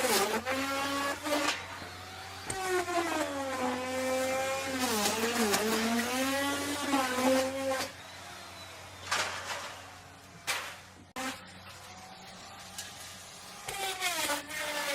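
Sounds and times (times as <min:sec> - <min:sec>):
electric router cutting wood: 0:00.0 - 0:14.9.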